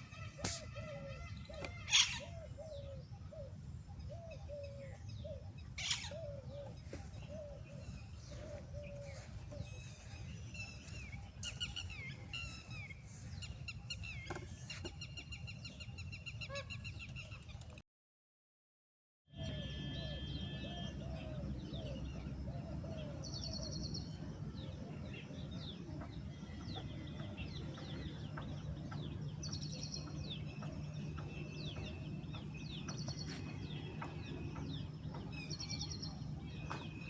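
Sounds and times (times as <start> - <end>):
birds calling and chirping: 0.0 - 17.8, 19.4 - 37.0.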